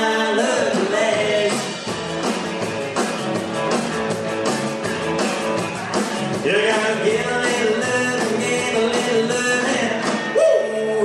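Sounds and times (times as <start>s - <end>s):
rock and roll song: 0.0s - 11.0s.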